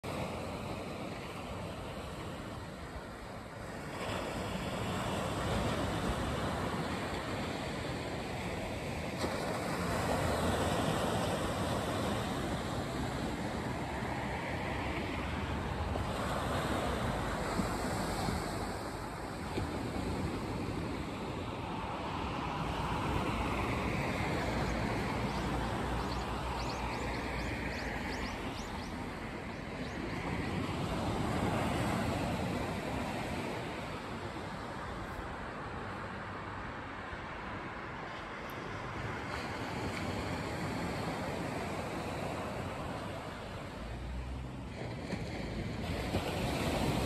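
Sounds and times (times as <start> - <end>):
waves washing onto beach: 0.0 - 47.0.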